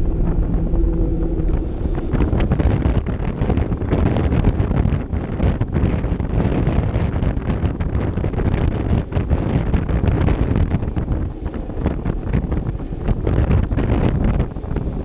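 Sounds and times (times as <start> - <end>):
scooter engine and tyre rumble: 0.0 - 15.0
wind buffeting microphone: 0.0 - 15.0.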